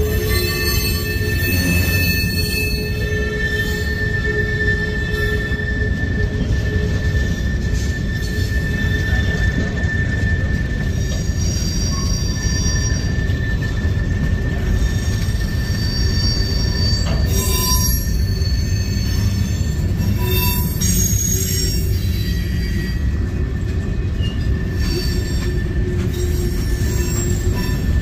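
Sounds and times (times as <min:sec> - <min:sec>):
high-pitched wheel squeal: 0:00.0 - 0:28.0
wheels rumbling on track: 0:00.0 - 0:28.0.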